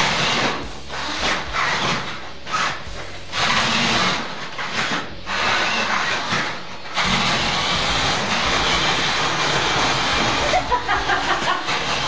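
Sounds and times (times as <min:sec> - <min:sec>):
toy motors whirring: 0:00.0 - 0:12.0.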